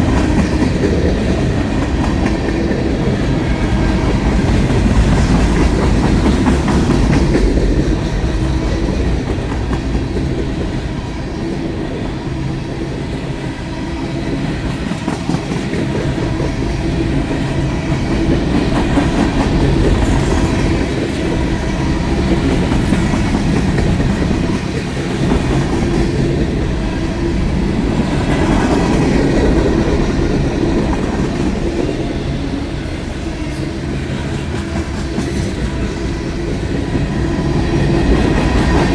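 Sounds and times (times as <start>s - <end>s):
heavy train rumble: 0.0s - 38.9s
train wheels clacking: 0.0s - 38.9s.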